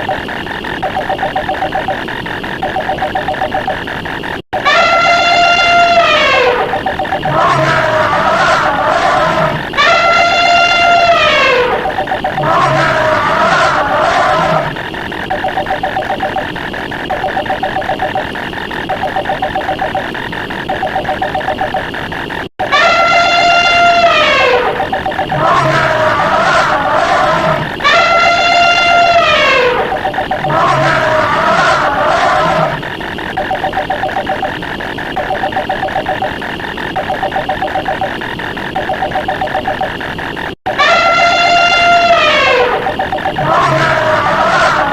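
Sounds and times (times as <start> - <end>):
rapid ticking clicks: 0.0 - 8.4, 9.2 - 13.9, 14.7 - 30.8, 32.8 - 42.1, 42.8 - 43.7
telephone ring trill: 0.8 - 2.0, 2.6 - 3.8, 4.6 - 9.2, 9.8 - 14.4, 15.2 - 21.9, 22.6 - 32.0, 33.4 - 40.0, 40.7 - 44.9.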